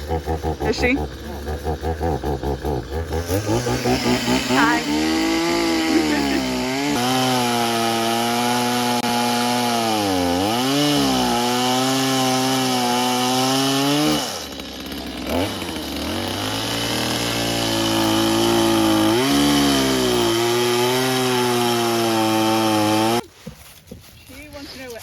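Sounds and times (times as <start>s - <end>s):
small petrol engine running: 0.0s - 23.2s.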